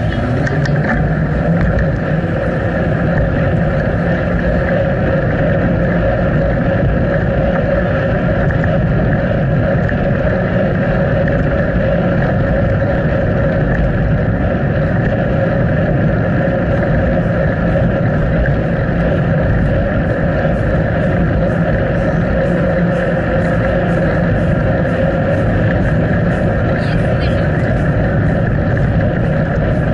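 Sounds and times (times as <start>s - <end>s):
wind rush on microphone: 0.0s - 29.9s.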